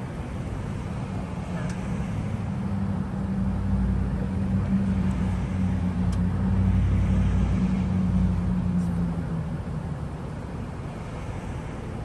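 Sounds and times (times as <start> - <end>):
engine idling low drone: 0.0 - 12.0.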